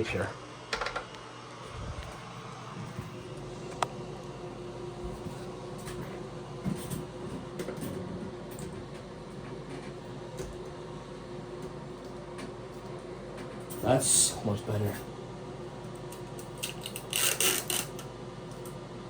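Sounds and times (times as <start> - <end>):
exhaust fan humming: 0.0 - 17.2.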